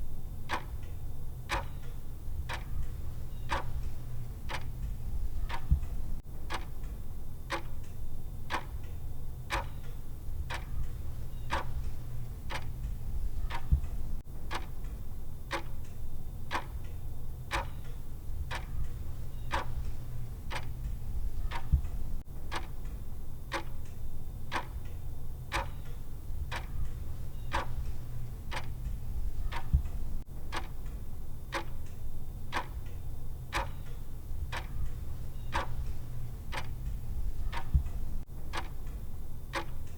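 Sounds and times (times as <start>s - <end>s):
timer ticking: 0.4s - 39.9s.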